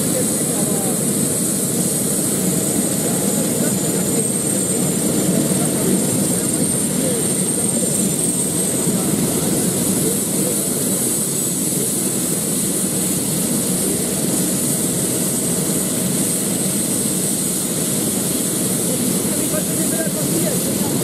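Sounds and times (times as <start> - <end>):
helicopter rotor noise: 0.0 - 21.0
high turbine whine: 0.0 - 21.0.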